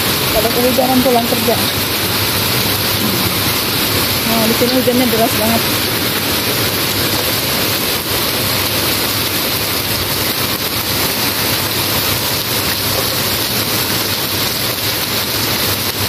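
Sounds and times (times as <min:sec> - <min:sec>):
heavy rain on street and roofs: 0:00.0 - 0:16.0
runoff streaming off eaves: 0:00.0 - 0:16.0.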